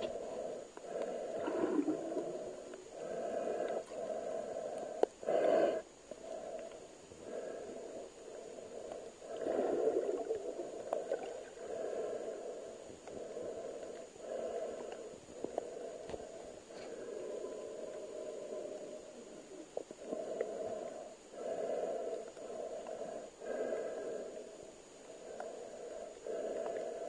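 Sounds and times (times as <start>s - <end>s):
diver breathing underwater: 0.0s - 27.0s.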